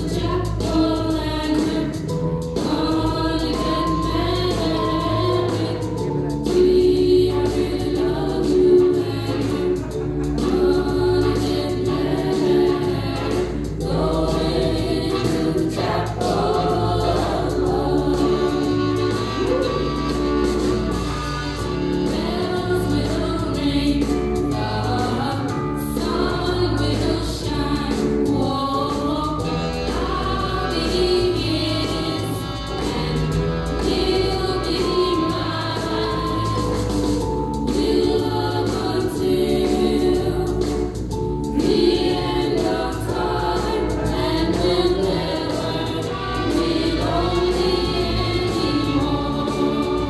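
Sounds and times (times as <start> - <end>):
choir singing gospel song: 0.0 - 50.0
steady bass: 0.0 - 50.0.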